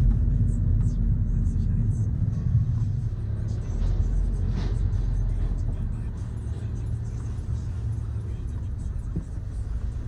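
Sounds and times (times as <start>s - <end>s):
car engine and tyre noise: 0.0s - 10.0s.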